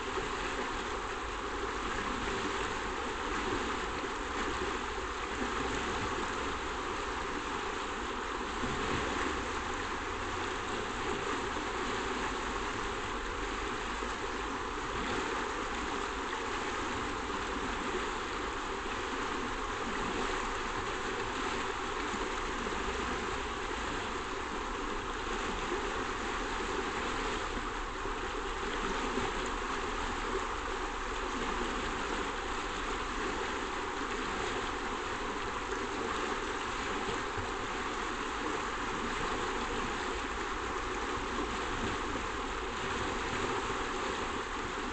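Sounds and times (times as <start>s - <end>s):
river rushing over stones: 0.0s - 44.9s.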